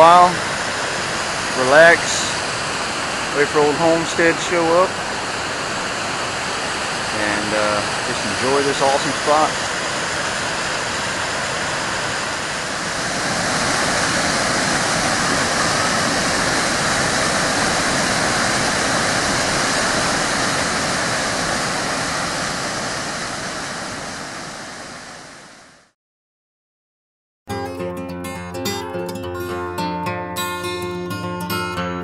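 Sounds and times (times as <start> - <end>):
waterfall rushing: 0.0 - 25.7.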